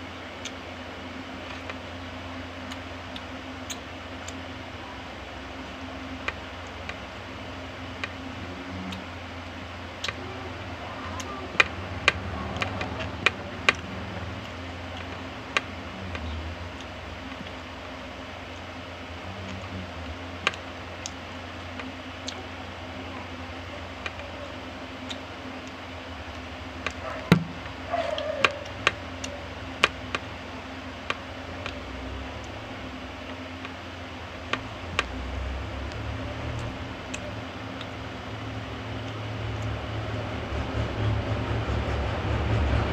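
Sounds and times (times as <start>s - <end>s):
low hum: 0.0s - 42.9s
eating clicks and crunches: 0.2s - 40.5s.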